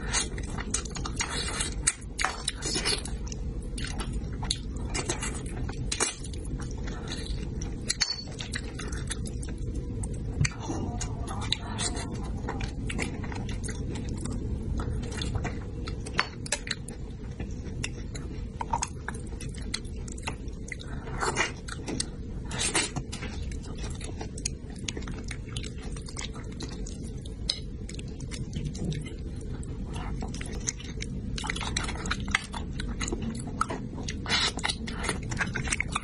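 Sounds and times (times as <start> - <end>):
person chewing with mouth clicks: 0.0 - 36.0.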